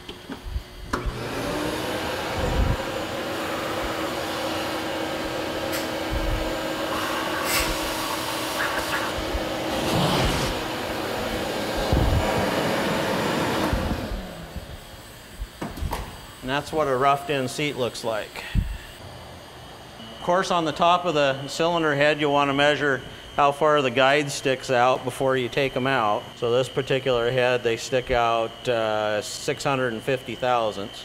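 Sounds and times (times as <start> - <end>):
shop vacuum running: 0.0 - 31.0.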